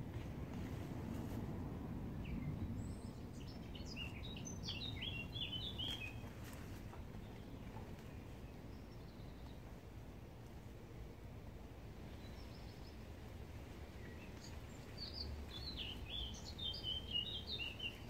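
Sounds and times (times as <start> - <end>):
low outdoor rumble: 0.0 - 18.0
songbird chirping: 2.1 - 18.0.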